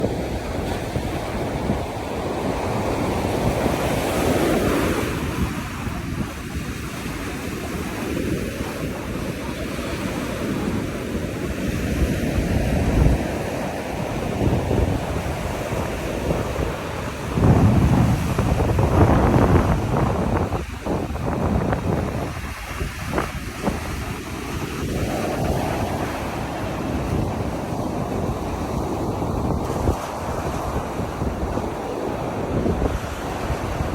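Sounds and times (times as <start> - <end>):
ocean surf breaking: 0.0 - 33.9
wind buffeting microphone: 0.0 - 33.9.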